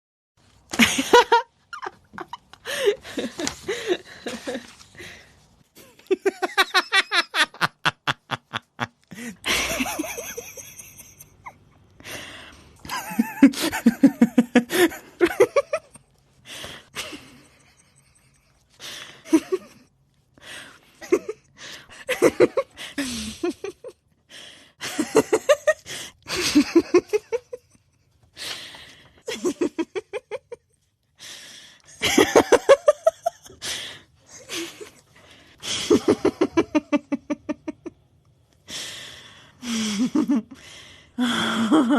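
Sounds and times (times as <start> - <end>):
person laughing and giggling: 0.7 - 5.2, 5.8 - 24.0, 24.8 - 30.8, 31.9 - 38.0, 39.6 - 41.9.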